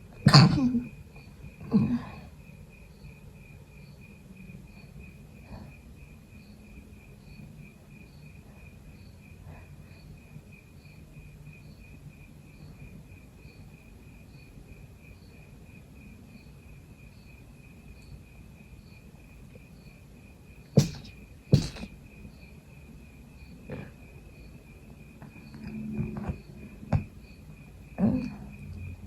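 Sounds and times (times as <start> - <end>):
crickets chirping: 0.0 - 29.0
faint low hum: 0.0 - 29.0.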